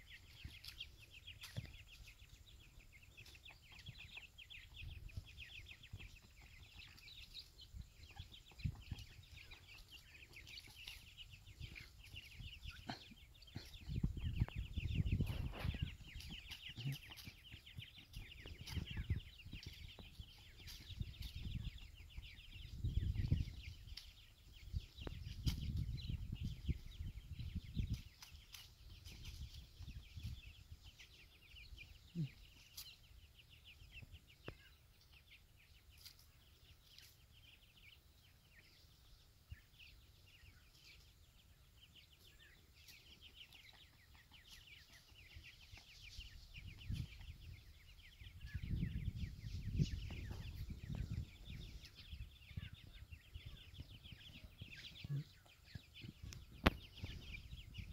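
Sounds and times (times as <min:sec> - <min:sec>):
chicks high soft chirps: 0:00.0 - 0:57.9.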